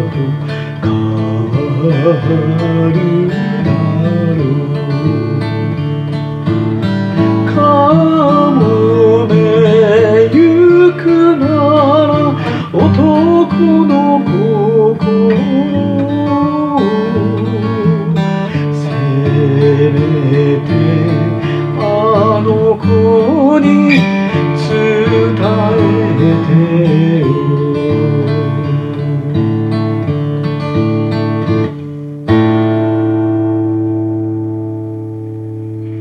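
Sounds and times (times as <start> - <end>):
man singing: 0.0 - 6.6, 7.2 - 29.8
acoustic guitar: 0.0 - 36.0.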